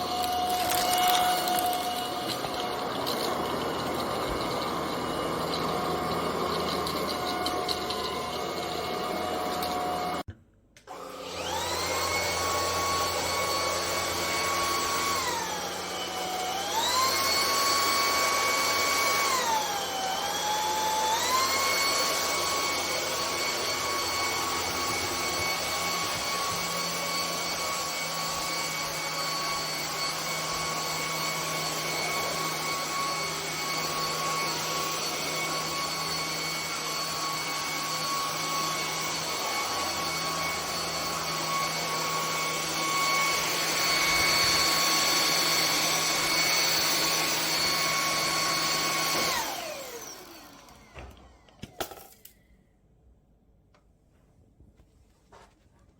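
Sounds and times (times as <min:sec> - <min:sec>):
cordless vacuum cleaner whine: 0:00.0 - 0:52.4.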